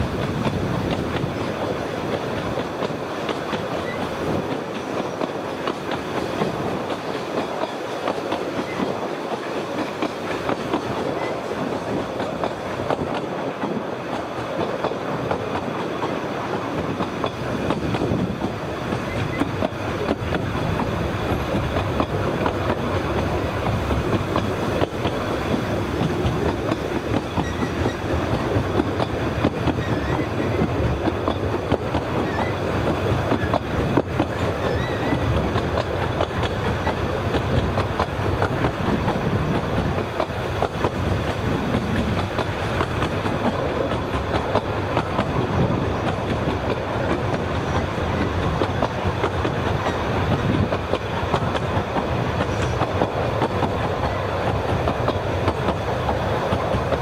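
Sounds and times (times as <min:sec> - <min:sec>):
train wheels rumbling and rattling: 0:00.0 - 0:57.0.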